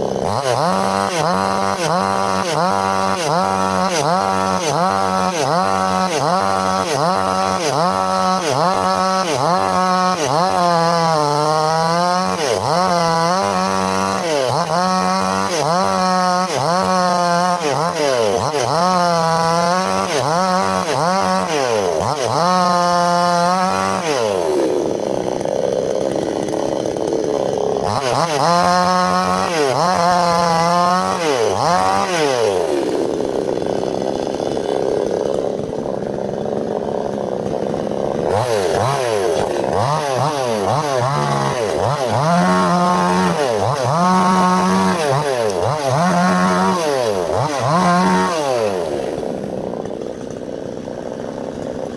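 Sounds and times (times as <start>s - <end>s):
chainsaw engine revving: 0.0s - 51.9s.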